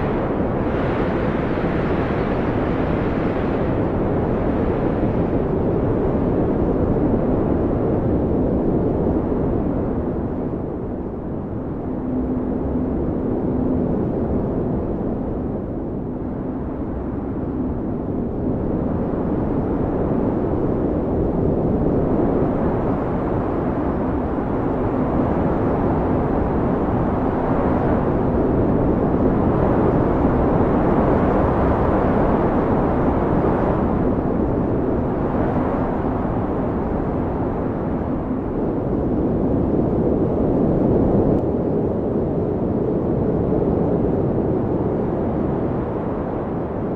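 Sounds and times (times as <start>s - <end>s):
howling wind: 0.0s - 46.9s.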